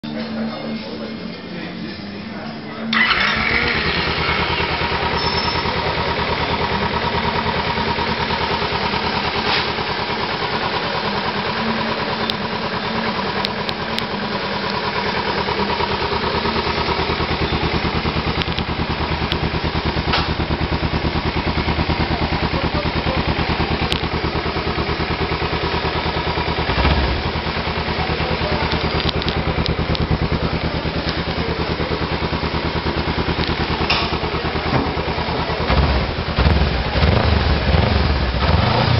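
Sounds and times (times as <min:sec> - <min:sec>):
motorcycle engine idling: 0:02.9 - 0:38.9.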